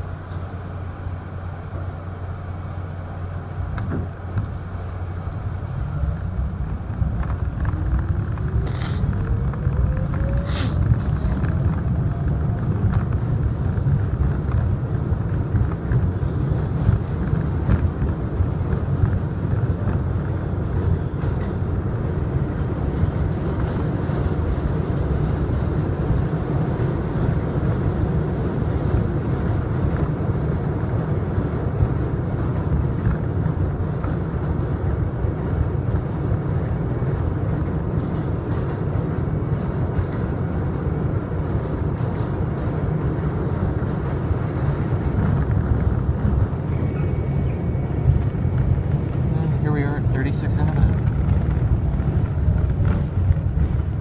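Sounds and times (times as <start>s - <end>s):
subway train rumbling on track: 0.0s - 54.0s.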